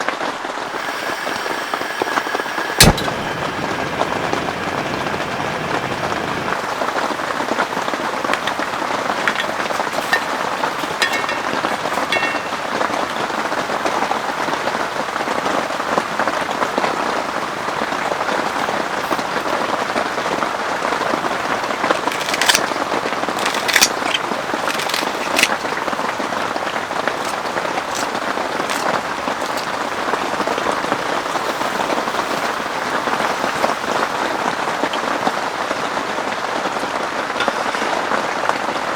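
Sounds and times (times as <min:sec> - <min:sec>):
heavy rain falling: 0:00.0 - 0:13.1, 0:15.1 - 0:38.9.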